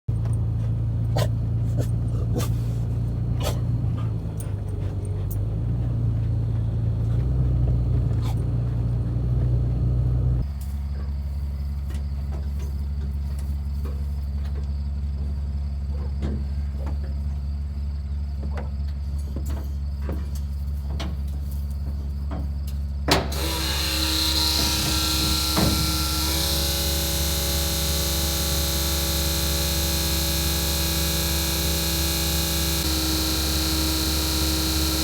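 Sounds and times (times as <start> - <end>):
vehicle engine running: 0.1 - 35.0.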